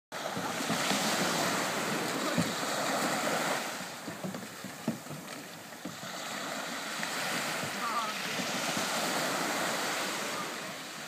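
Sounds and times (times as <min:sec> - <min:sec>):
small waves washing on sand: 0:00.1 - 0:11.0
wind buffeting microphone: 0:00.2 - 0:11.0.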